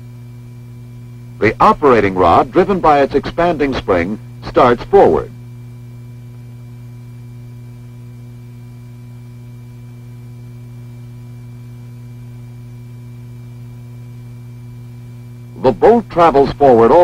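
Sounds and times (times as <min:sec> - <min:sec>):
low electrical hum with hiss: 0:00.0 - 0:17.0.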